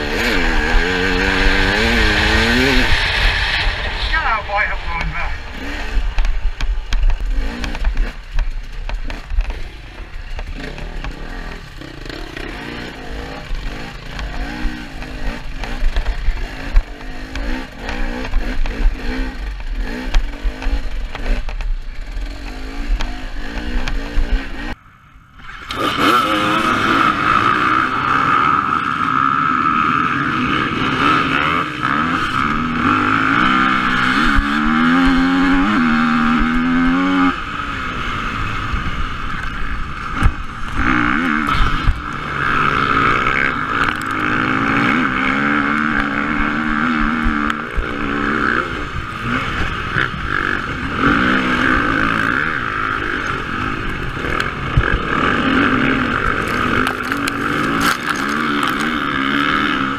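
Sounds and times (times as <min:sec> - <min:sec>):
dirt bike engine revving: 0:00.0 - 0:24.8, 0:25.4 - 0:59.9.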